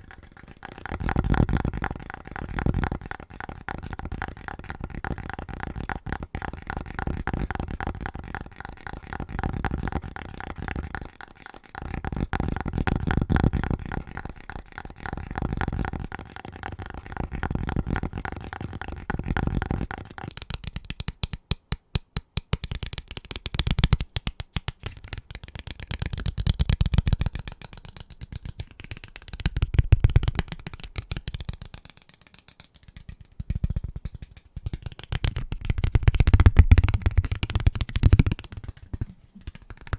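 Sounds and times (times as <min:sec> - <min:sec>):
fingernail tapping on objects: 0:00.0 - 0:39.9.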